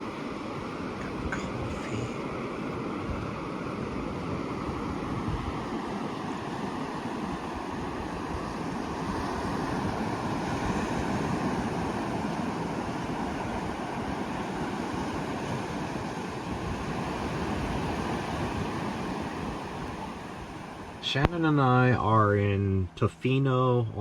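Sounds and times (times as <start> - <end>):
ocean surf washing onto beach: 0.0 - 22.1
wind: 0.0 - 24.0.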